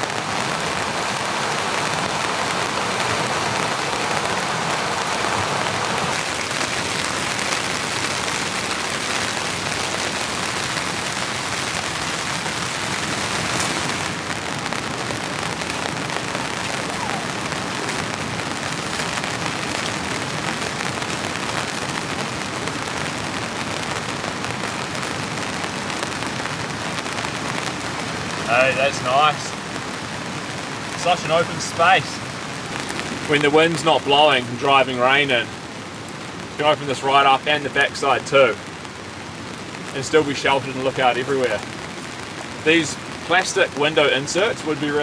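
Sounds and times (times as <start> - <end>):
heavy rain on tent fabric: 0.0 - 45.0.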